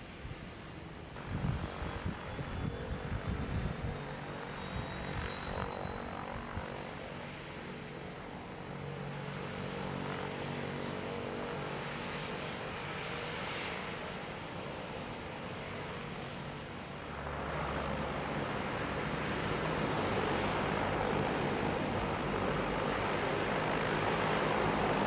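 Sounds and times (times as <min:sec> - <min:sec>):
propeller engine humming: 0:00.0 - 0:25.0.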